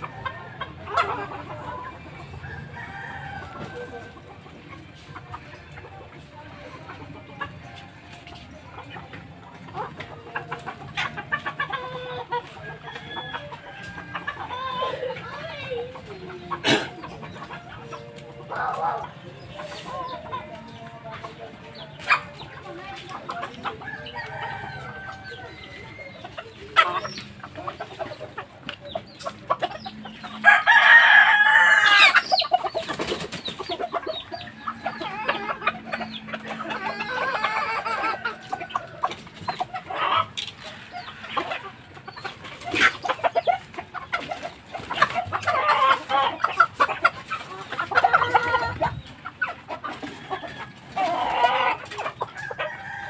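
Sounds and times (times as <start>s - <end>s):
roosters crowing: 0.0s - 4.6s, 10.2s - 20.8s, 21.8s - 53.0s
chickens clucking: 0.0s - 53.0s.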